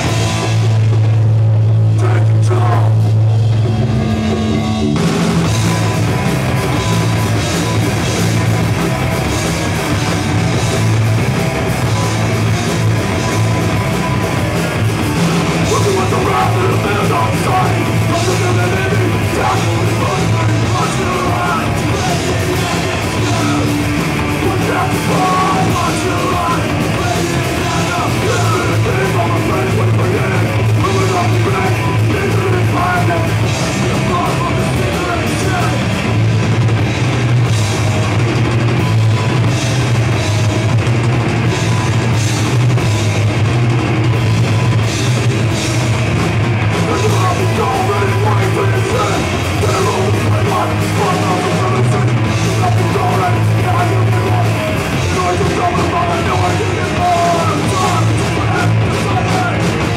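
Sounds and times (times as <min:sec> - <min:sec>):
distorted bass guitar: 0:00.0 - 0:59.9
drums and cymbals: 0:00.0 - 0:59.9
electric guitar: 0:00.0 - 0:59.9.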